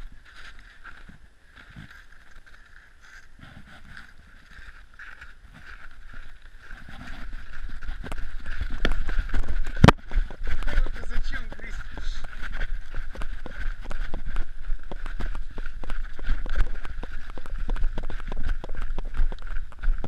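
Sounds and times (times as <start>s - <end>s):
camera rubbing and handling noise: 0.0s - 20.0s
footsteps crunching through snow: 0.0s - 20.0s.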